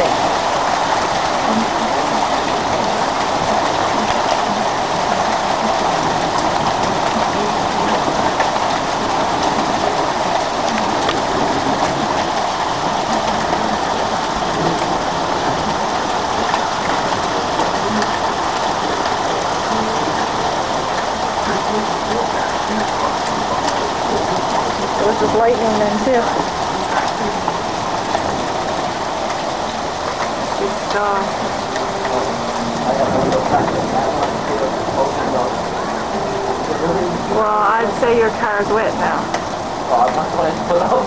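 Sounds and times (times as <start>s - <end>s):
hail pelting the ground: 0.0s - 41.0s.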